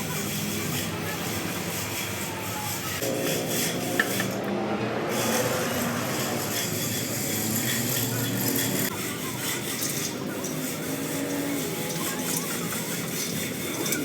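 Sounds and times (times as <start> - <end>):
tool rasping on metal: 0.0 - 14.0.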